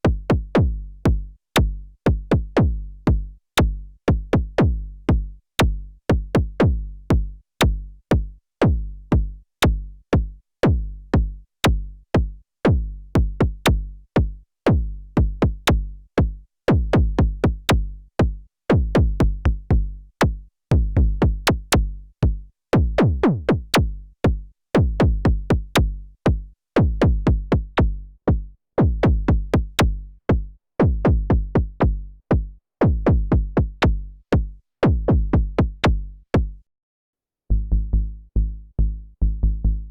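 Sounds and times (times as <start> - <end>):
synthesizer kick and bass pattern: 0.1 - 36.6.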